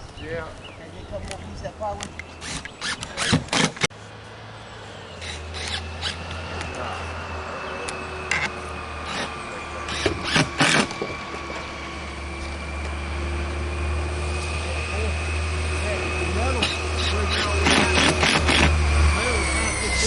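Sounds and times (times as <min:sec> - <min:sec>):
motor humming: 0:02.0 - 0:03.9, 0:04.8 - 0:20.0.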